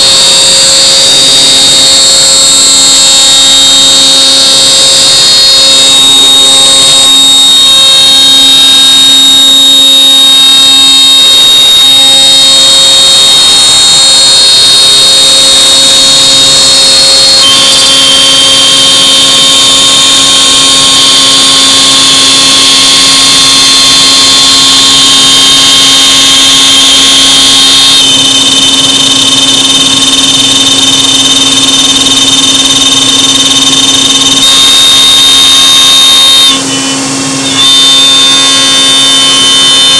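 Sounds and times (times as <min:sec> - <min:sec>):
cnc router spindle whine: 0:00.0 - 0:39.9
machine hum: 0:00.0 - 0:39.9.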